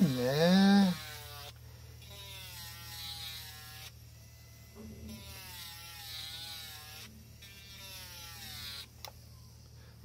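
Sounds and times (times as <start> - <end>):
rotary tool whining: 0.0 - 10.0.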